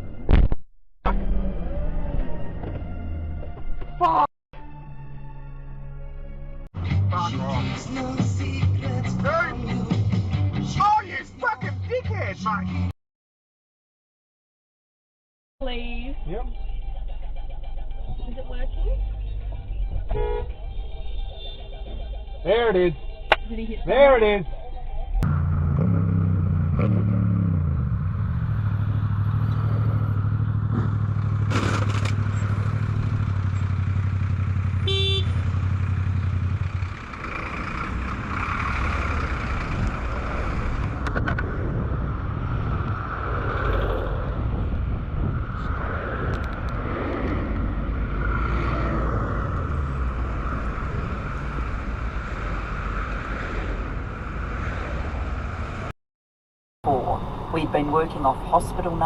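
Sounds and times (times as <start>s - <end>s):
road and traffic noise: 0.0s - 4.3s, 6.7s - 12.9s, 15.6s - 56.0s, 56.8s - 59.0s
vehicle engine hum: 5.8s - 12.9s, 15.6s - 55.9s, 56.8s - 59.0s.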